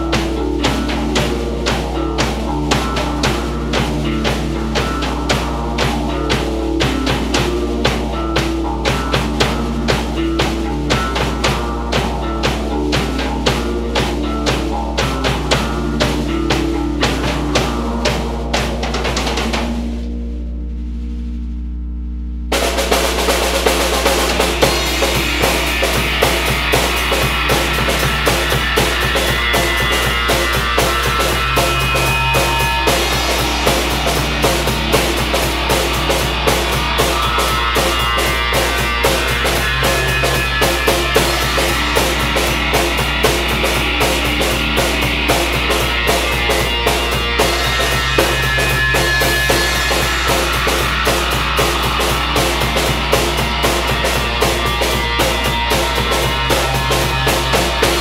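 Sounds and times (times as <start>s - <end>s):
rock drum beat: 0.0s - 20.1s, 22.5s - 58.0s.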